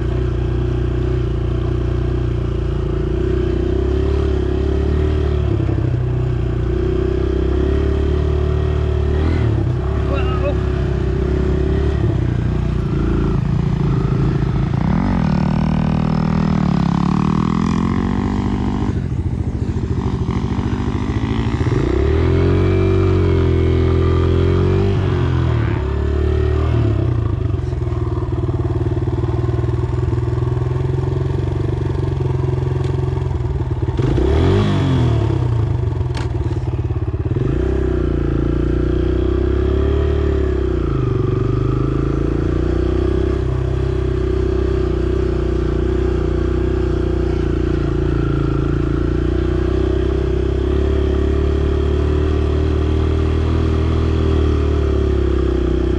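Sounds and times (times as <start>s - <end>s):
dirt bike engine revving: 2.9s - 5.8s, 6.4s - 27.8s, 33.9s - 36.6s, 37.3s - 55.9s.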